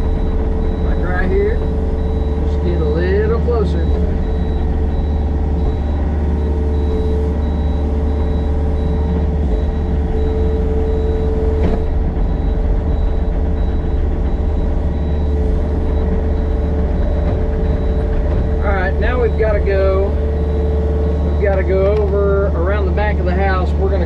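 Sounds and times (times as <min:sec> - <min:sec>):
excavator diesel engine running: 0:00.0 - 0:24.0
hydraulic whine: 0:00.0 - 0:24.0.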